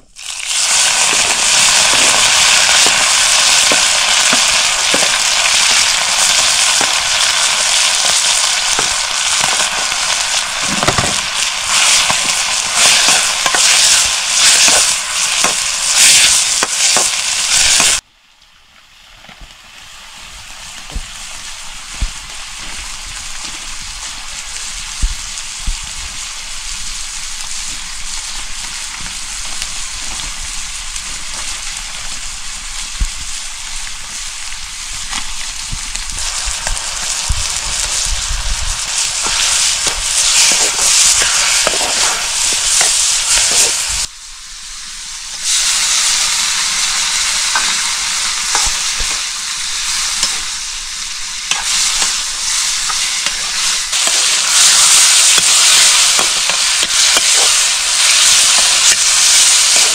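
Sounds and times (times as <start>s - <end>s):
food sizzling in hot oil: 0.0s - 18.0s, 18.8s - 59.9s.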